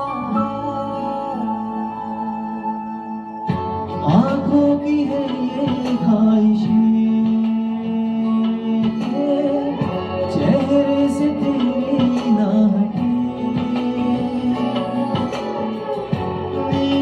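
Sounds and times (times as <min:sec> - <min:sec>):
instrumental backing track: 0:00.0 - 0:17.0
man singing into microphone: 0:00.0 - 0:17.0.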